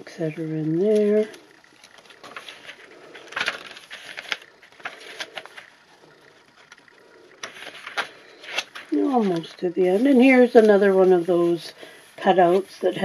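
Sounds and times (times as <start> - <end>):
paper pages rustling: 0.4 - 13.0.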